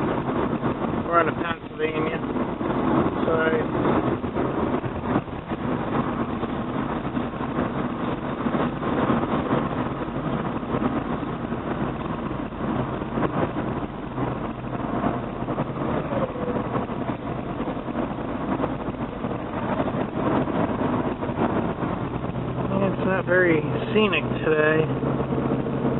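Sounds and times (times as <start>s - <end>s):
car engine hum: 0.0s - 25.9s
road noise inside car: 0.0s - 25.9s.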